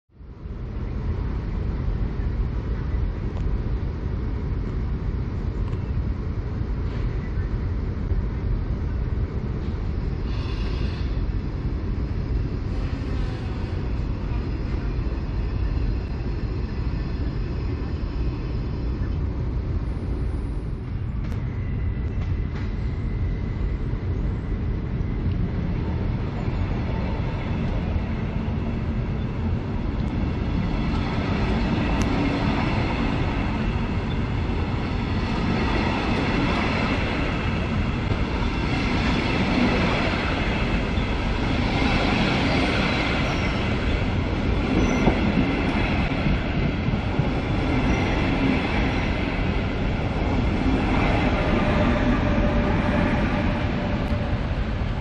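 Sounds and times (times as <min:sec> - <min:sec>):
train rumbling on track: 0:00.1 - 0:55.0.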